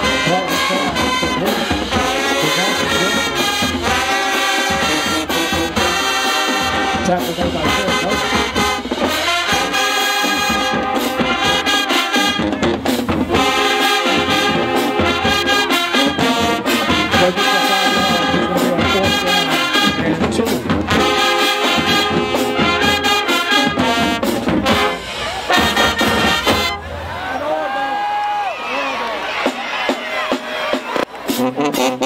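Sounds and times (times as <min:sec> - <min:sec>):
trumpets and trombones: 0:00.0 - 0:27.4, 0:29.3 - 0:32.0
marching band playing: 0:00.0 - 0:27.7, 0:29.2 - 0:32.0.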